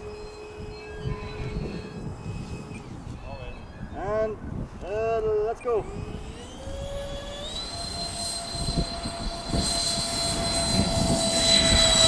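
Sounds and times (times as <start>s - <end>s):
electric ducted fans whining: 0.0s - 12.0s.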